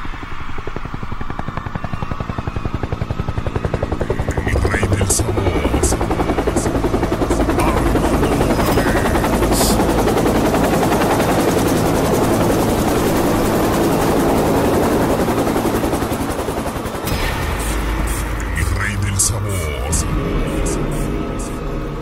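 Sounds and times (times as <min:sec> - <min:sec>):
helicopter rotor blades chopping: 0:00.0 - 0:22.0.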